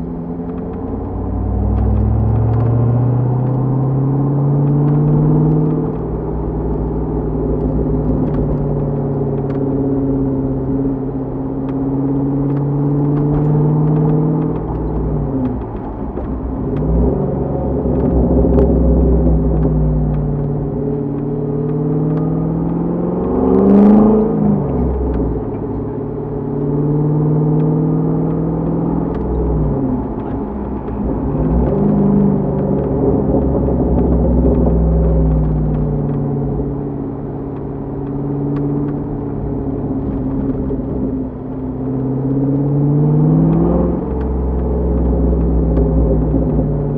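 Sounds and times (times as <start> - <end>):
car engine deep rumble: 0.0 - 46.9.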